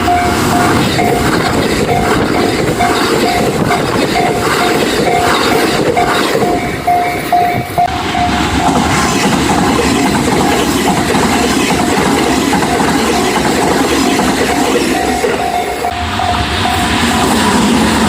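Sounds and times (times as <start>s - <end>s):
level-crossing alarm bell dinging: 0.0s - 8.8s, 9.7s - 17.0s
train running past: 0.0s - 18.0s.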